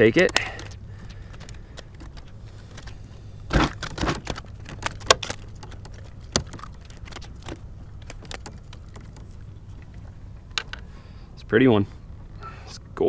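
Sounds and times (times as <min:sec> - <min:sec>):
sharp clicks and knocks: 0:00.0 - 0:10.8
fish handling rustling and knocking: 0:00.0 - 0:10.9.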